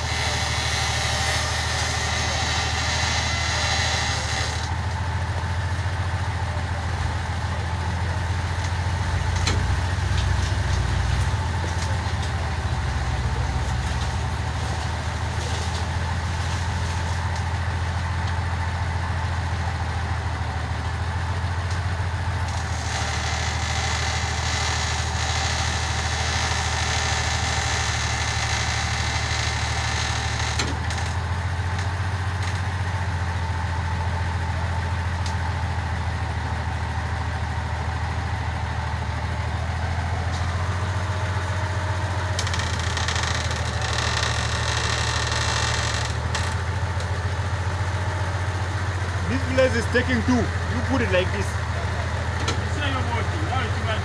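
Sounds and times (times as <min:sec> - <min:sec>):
crane engine running: 0:00.0 - 0:54.0.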